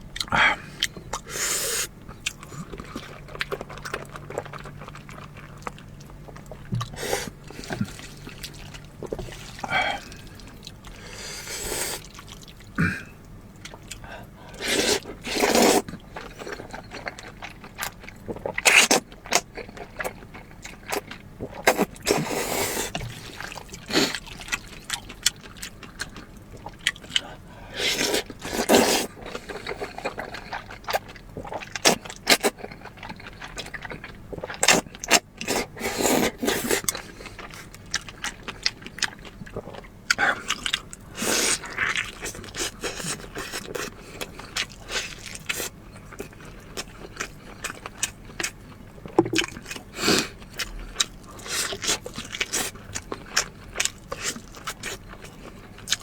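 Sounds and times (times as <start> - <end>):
chewing and slurping: 0.2 - 56.0.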